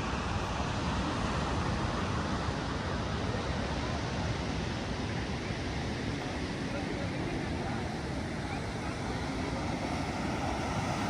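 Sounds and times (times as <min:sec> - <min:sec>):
ocean surf: 0:00.0 - 0:11.0
wind at the shore: 0:00.0 - 0:11.0.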